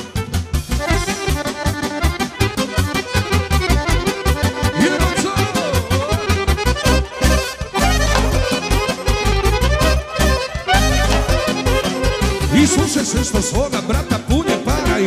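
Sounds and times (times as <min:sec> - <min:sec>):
accordion playing fast: 0:00.0 - 0:15.0
steady bass beat: 0:00.1 - 0:15.0.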